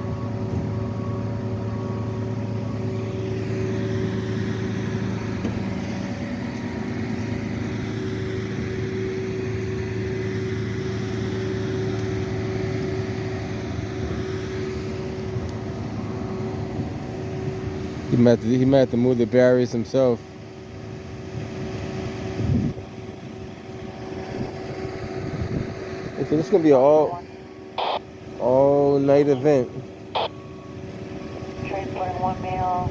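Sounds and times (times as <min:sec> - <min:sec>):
vehicle engine idling: 0:00.0 - 0:21.8, 0:22.8 - 0:32.8.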